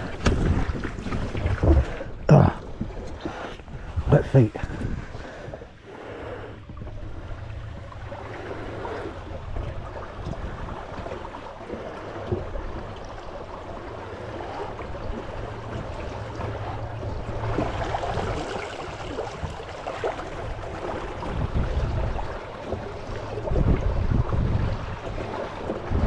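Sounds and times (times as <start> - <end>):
outboard motor humming: 0.0 - 26.0
water rushing along hull: 0.0 - 26.0.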